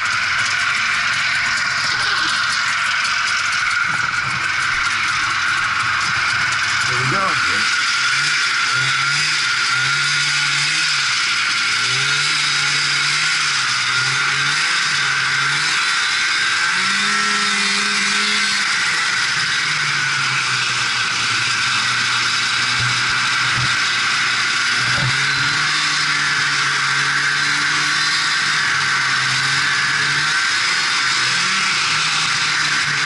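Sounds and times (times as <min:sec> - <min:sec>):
snowmobile two-stroke engine: 0:00.0 - 0:33.0.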